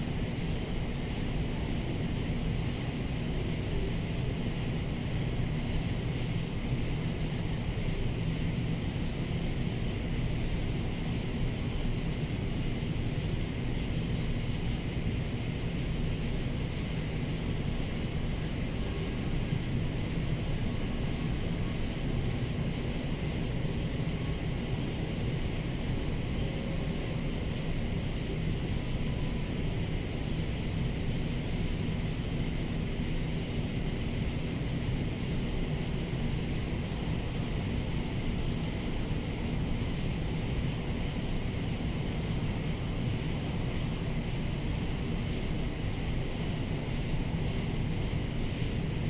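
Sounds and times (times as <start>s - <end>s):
cicadas hissing: 0.0s - 49.0s
constant low rumble: 0.0s - 49.0s.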